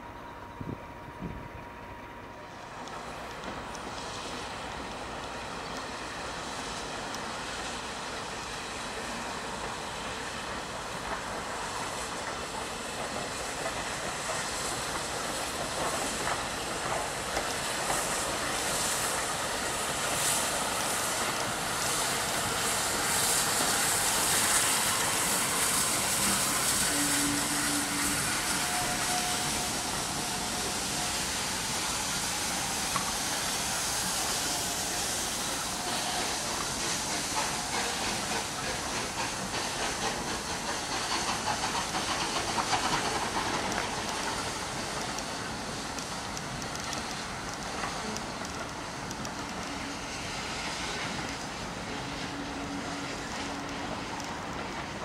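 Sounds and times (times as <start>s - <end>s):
steam locomotive passing: 0.0s - 55.0s
wheels clicking on rails: 8.4s - 55.0s.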